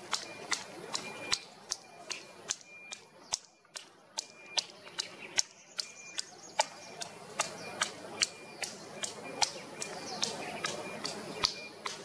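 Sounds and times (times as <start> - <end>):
sharp clicks: 0.0 - 12.0.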